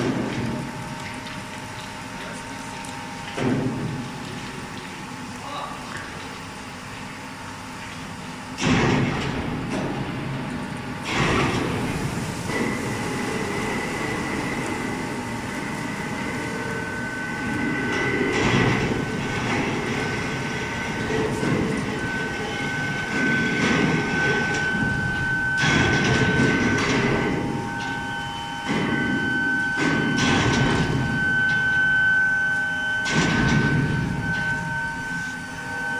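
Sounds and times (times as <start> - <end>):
furnace high-pitched whine: 0.0 - 35.9.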